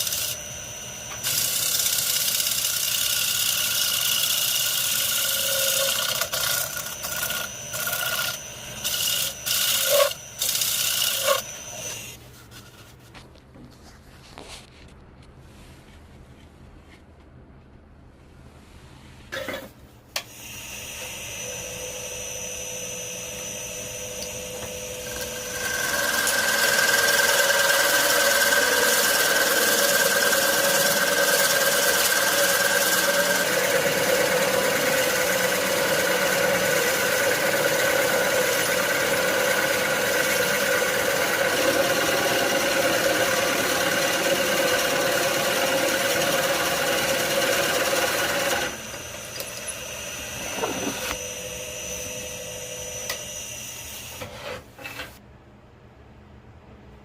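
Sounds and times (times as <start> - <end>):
power tool whining: 0.0 - 12.2, 20.2 - 55.2.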